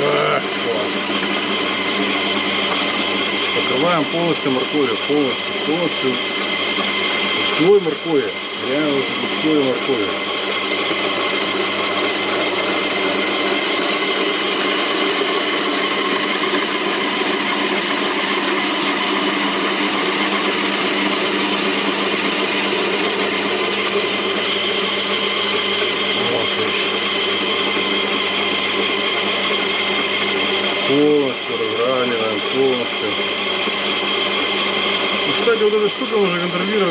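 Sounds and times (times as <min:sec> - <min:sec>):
electric grater motor humming: 0:00.0 - 0:36.9.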